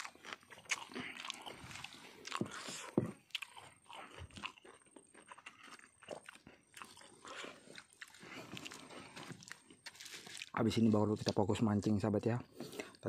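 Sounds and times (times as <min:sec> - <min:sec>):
person crunching and chewing: 0:00.0 - 0:11.4.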